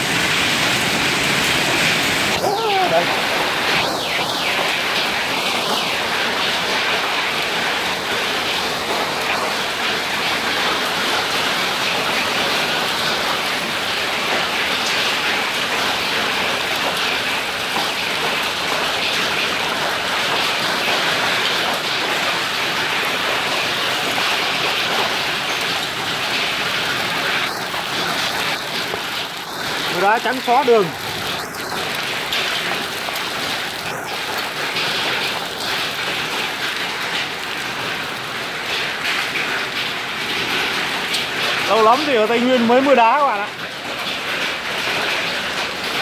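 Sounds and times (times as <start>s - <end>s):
heavy rain and hail on concrete: 0.0s - 46.0s.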